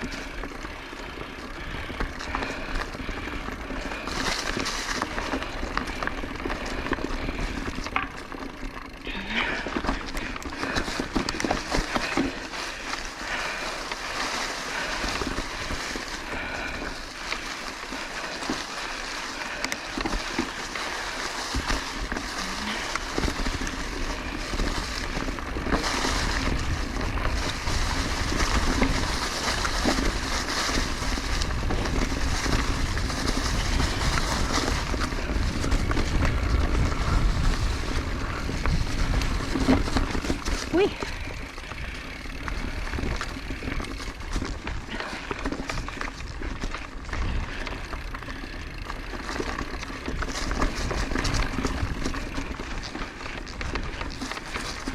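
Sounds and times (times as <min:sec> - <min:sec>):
bike tyres on dirt trail: 0:00.0 - 0:54.9.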